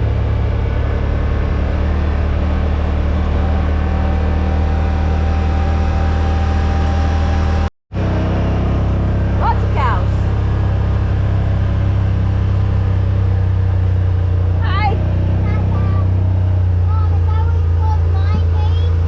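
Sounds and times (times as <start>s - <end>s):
utility vehicle engine drone: 0.0s - 19.0s.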